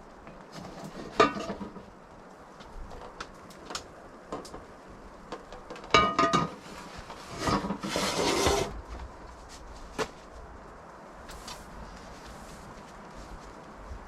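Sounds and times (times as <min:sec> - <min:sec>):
hissing rustle: 0:00.0 - 0:14.0.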